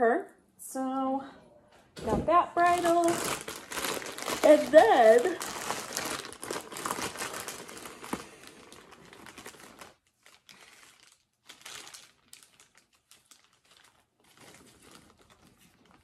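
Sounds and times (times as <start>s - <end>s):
plastic bag crinkling: 2.6s - 16.0s.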